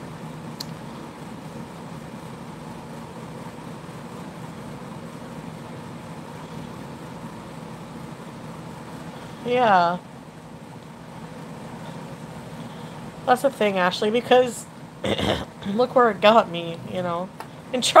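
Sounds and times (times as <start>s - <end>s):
low hum with hiss: 0.0s - 18.0s.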